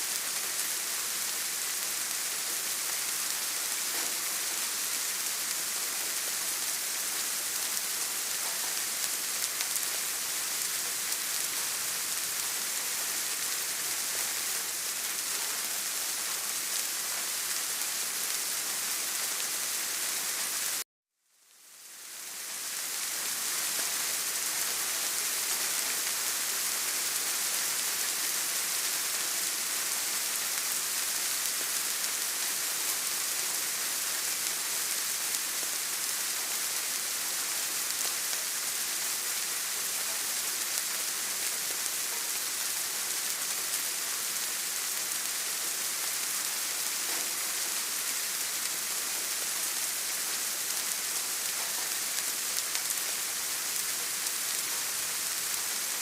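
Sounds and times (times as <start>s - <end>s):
steady rain falling: 0.0s - 20.8s, 21.4s - 56.0s.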